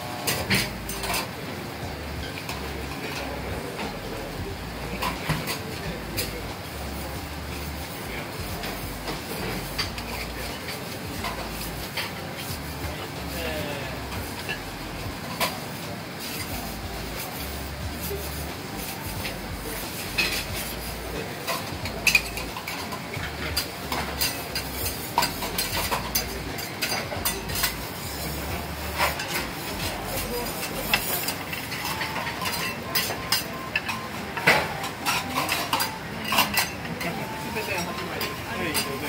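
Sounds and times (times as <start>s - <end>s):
food sizzling on griddle: 0.0s - 39.0s
metal spatulas scraping griddle: 0.1s - 1.4s, 4.9s - 13.4s, 14.2s - 39.0s.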